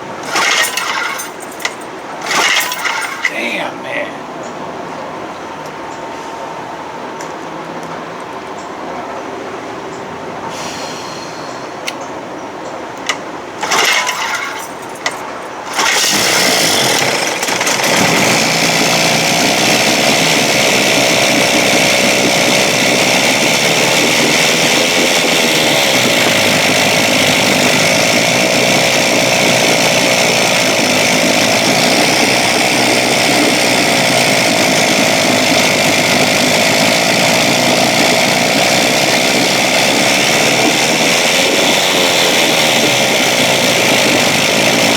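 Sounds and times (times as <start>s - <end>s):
outboard motor starting and running: 0.0s - 5.9s, 12.9s - 44.9s.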